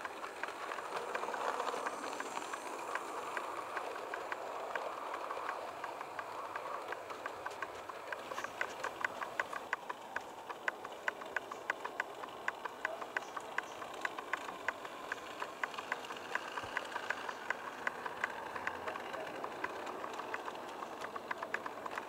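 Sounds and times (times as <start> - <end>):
steady running hiss: 0.0 - 22.0
wheels clicking over rail joints: 0.0 - 22.0.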